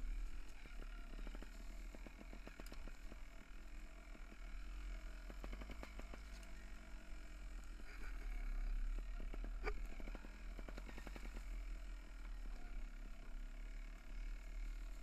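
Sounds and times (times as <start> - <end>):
bike rolling low rumble: 0.0 - 15.0.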